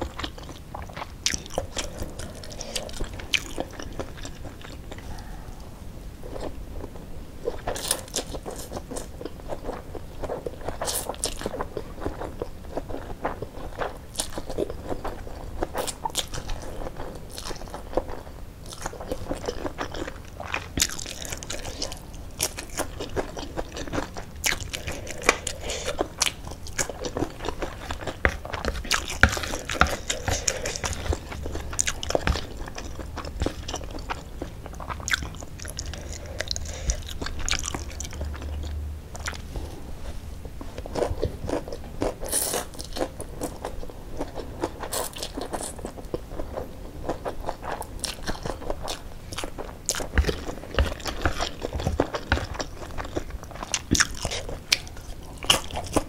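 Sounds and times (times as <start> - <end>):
wet chewing: 0.0 - 39.7, 40.6 - 56.0.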